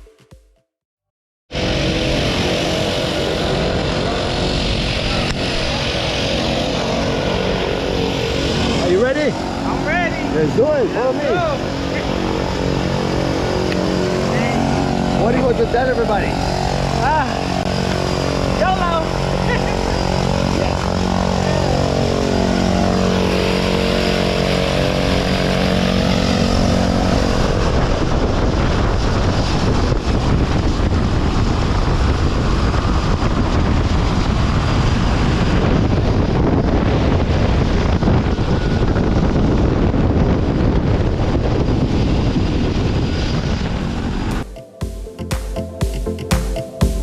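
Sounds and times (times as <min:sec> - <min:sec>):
wind rushing: 0:01.5 - 0:44.5
propeller aircraft engine drone: 0:01.5 - 0:47.0.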